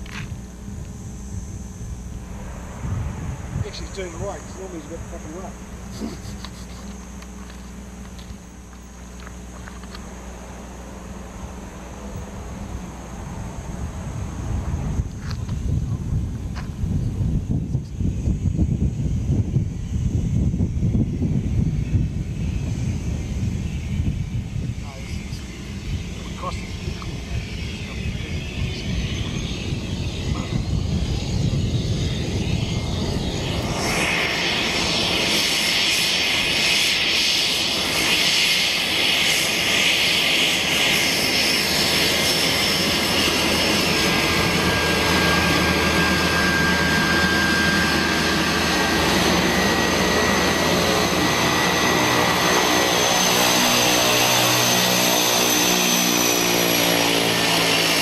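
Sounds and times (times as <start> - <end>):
propeller drone: 0.0 - 58.0
turbine whine: 0.0 - 58.0.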